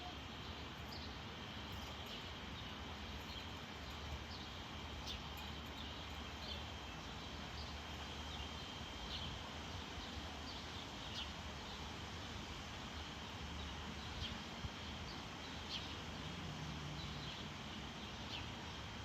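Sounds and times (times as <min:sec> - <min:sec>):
outdoor background: 0:00.0 - 0:19.0.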